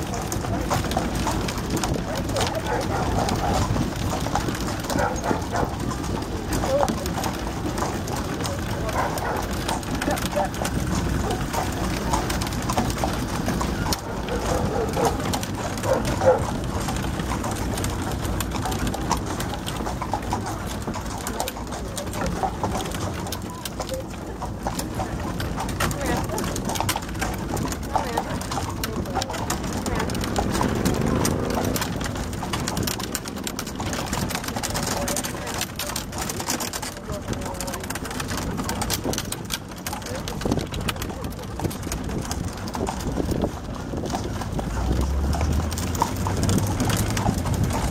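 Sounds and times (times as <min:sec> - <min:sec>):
buggy wheels rumbling: 0:00.0 - 0:47.9
horse hooves clip-clopping: 0:00.0 - 0:47.9
wind: 0:00.0 - 0:47.9.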